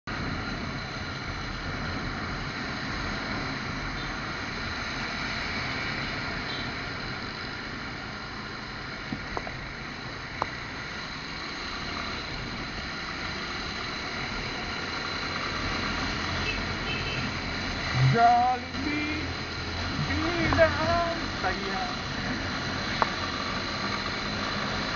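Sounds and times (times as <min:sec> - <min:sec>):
wind and traffic hum: 0:00.1 - 0:24.9.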